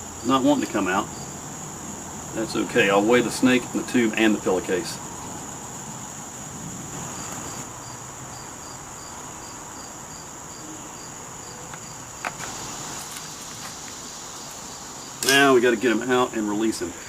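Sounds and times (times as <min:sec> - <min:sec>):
insect chirping: 0:00.0 - 0:17.0
insect drone: 0:00.0 - 0:17.0.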